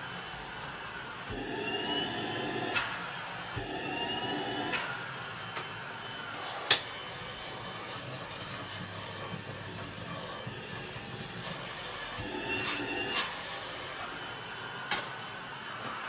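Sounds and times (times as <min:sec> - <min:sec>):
vacuum cleaner motor whining: 0:00.0 - 0:16.0.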